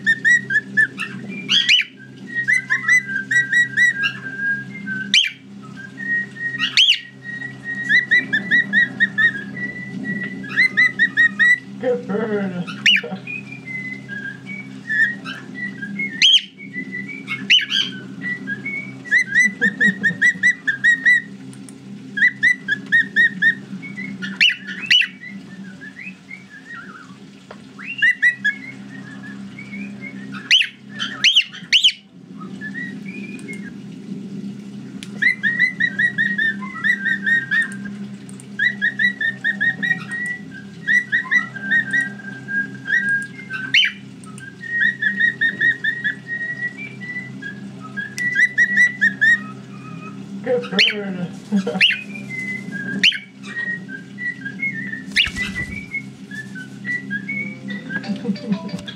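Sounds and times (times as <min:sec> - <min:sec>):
cockatiels whistling and chirping: 0:00.0 - 0:11.8, 0:12.7 - 0:21.4, 0:22.1 - 0:27.2, 0:27.8 - 0:33.8, 0:35.2 - 0:38.0, 0:38.6 - 0:58.9
steady low hum: 0:00.0 - 0:58.9.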